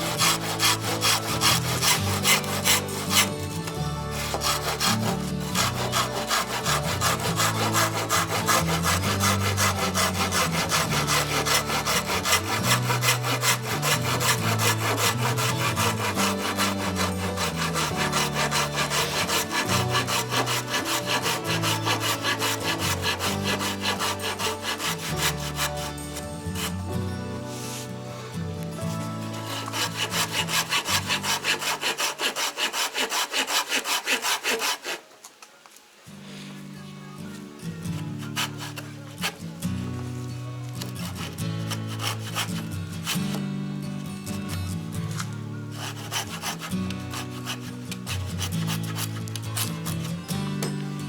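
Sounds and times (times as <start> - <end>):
hand saw cutting branch: 0.0 - 27.9, 28.8 - 35.2, 38.0 - 39.5, 40.8 - 43.4, 44.5 - 50.8.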